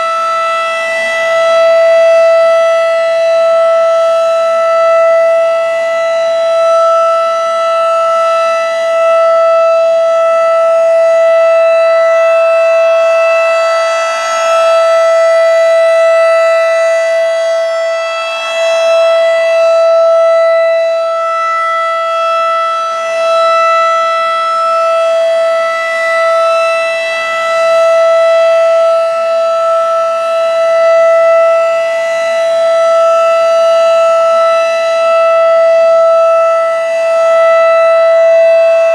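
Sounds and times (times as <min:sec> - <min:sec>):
rotating siren steady tone: 0:00.0 - 0:38.9.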